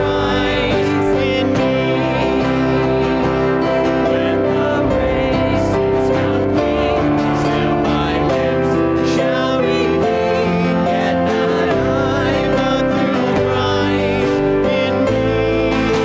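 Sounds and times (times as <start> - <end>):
keyboard accompaniment: 0.0 - 16.0
voices singing a hymn: 0.0 - 16.0.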